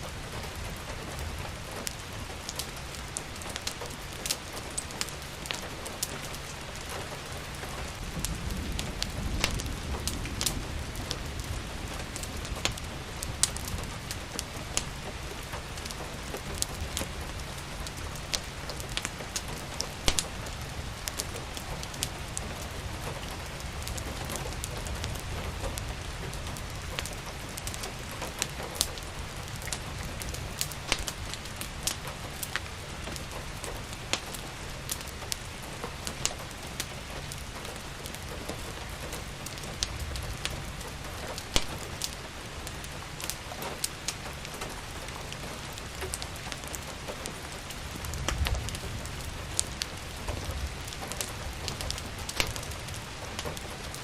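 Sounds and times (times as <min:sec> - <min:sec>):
steady rain patter: 0:00.0 - 0:54.0
wood fire crackling and popping: 0:00.0 - 0:54.0.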